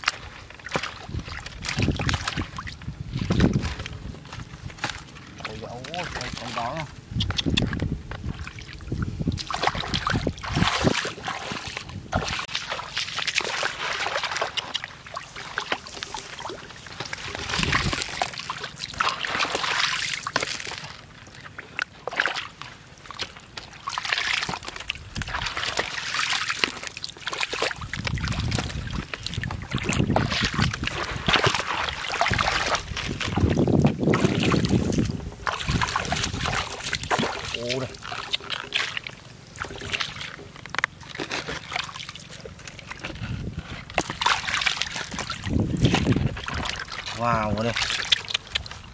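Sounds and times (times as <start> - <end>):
muddy water splashing: 0.0 - 48.9.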